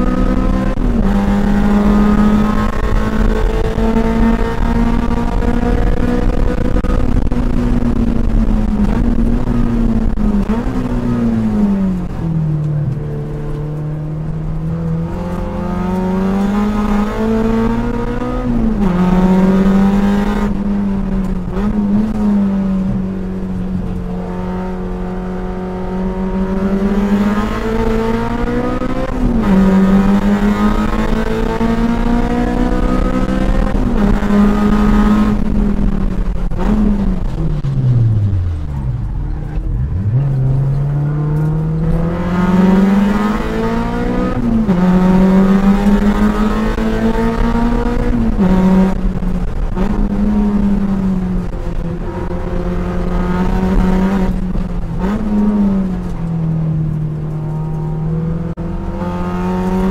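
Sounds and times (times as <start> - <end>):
car engine at hard throttle: 0.0 - 59.9.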